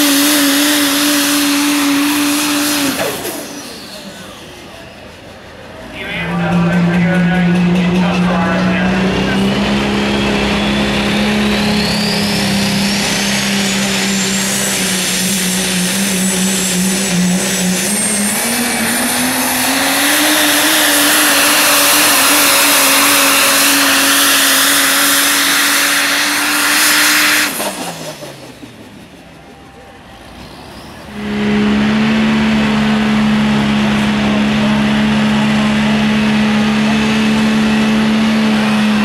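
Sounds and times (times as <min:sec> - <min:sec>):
diesel truck engine at full throttle: 0:00.0 - 0:39.0
high whine: 0:01.5 - 0:39.0.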